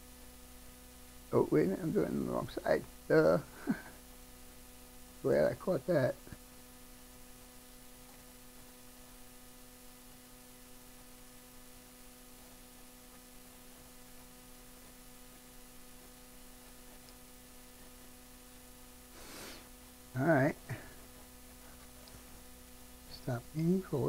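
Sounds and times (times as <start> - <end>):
electrical mains hum: 0.0 - 24.0
low hiss: 0.0 - 24.0.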